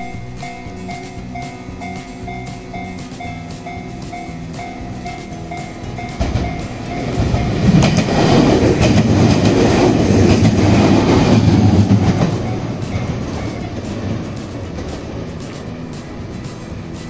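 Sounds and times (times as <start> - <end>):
electric train rumbling past: 0.0 - 17.0
level crossing warning bell: 0.0 - 17.0
wheels clacking over rail joints: 0.0 - 17.0.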